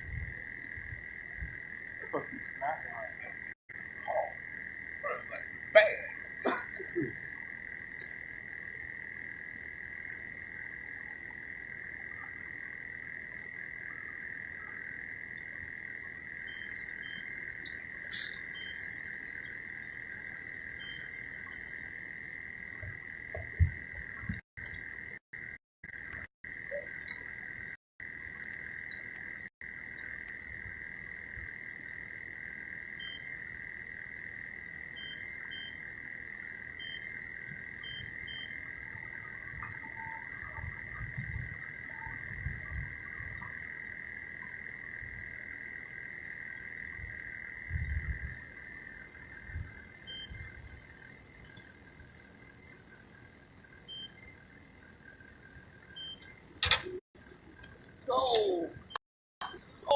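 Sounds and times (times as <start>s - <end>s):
frogs and insects calling: 0.0s - 59.9s.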